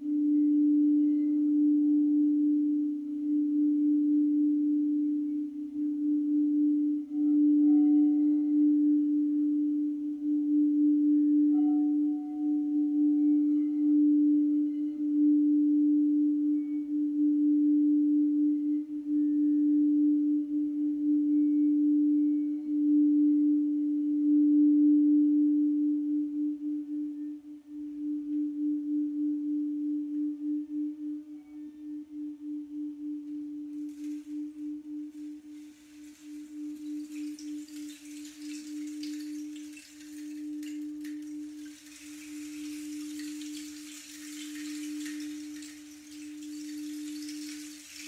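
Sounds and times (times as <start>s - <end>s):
crystal singing bowl tone: 0.0s - 48.0s.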